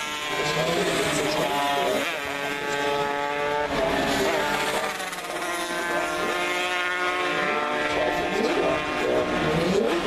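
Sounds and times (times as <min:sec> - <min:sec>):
racing motorcycles accelerating: 0:00.0 - 0:10.0.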